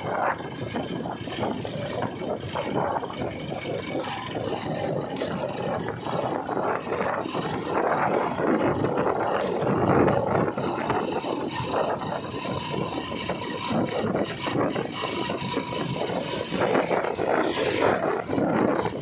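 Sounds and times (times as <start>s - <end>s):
motorcycle engine: 0.0s - 19.0s
wind noise: 0.0s - 19.0s.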